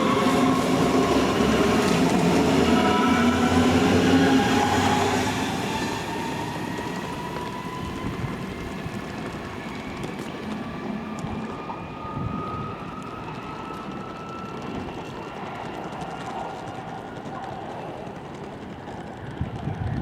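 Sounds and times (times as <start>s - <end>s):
train running past: 0.0s - 20.0s.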